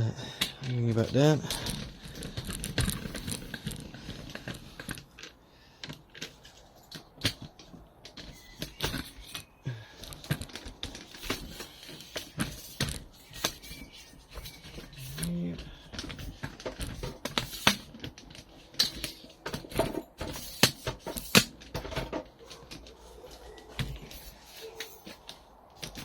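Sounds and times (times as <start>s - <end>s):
hand tools clicking and knocking: 0.2s - 26.0s.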